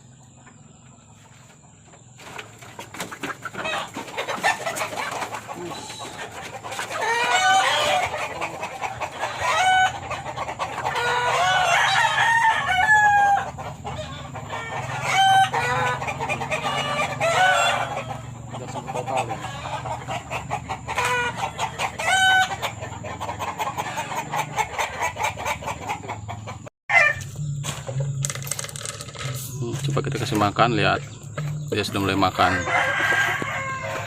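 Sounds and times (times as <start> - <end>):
chicken clucking: 0.0 - 28.2, 29.1 - 34.0.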